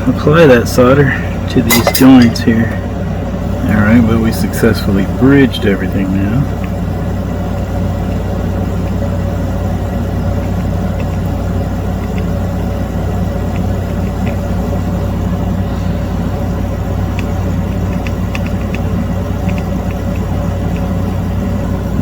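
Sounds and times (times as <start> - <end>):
fan motor humming: 0.0 - 22.0.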